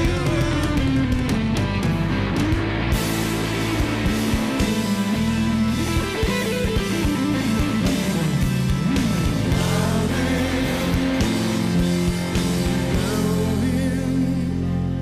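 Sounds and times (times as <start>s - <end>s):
bass: 0.0s - 15.0s
drums: 0.0s - 15.0s
electric guitar lead bending notes: 0.0s - 15.0s.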